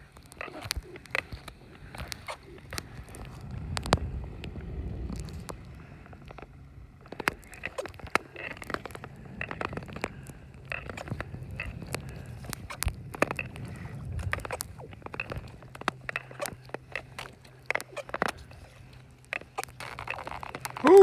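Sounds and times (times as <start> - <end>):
low gliding rumble on ice: 0.0 - 21.0
skate blades scraping and clicking: 0.0 - 21.0.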